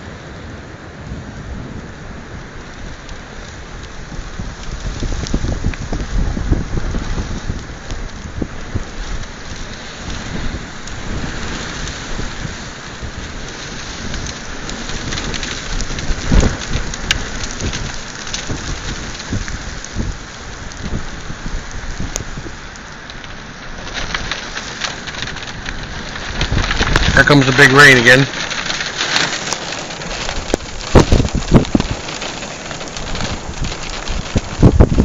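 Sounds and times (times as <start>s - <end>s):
low rolling thunder: 0.0s - 22.6s, 23.6s - 35.0s
rain falling steadily: 0.0s - 35.0s.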